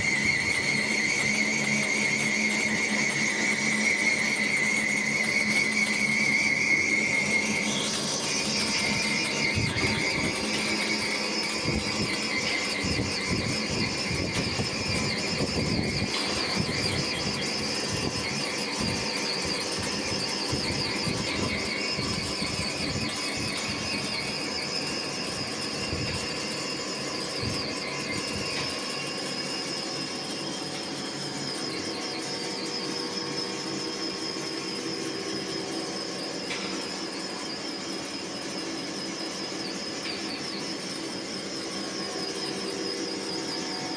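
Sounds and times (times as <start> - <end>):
high-pitched machine whine: 0.0 - 43.9.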